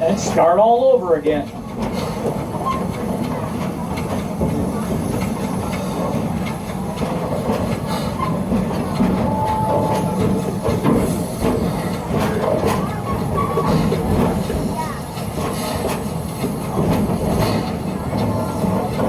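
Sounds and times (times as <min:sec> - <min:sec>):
train rumbling and clattering on track: 0:00.0 - 0:19.0.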